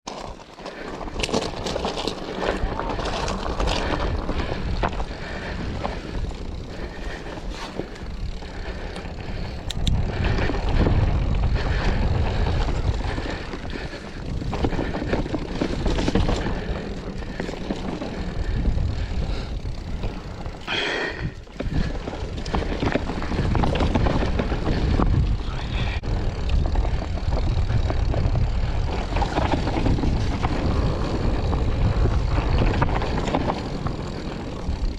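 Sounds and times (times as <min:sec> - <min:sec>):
bike road noise: 0:00.1 - 0:34.9
wind buffeting microphone: 0:01.0 - 0:34.9.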